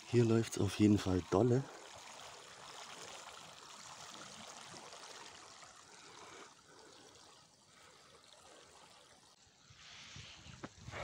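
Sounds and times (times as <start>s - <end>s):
water rushing through a pipe: 0.0s - 11.0s.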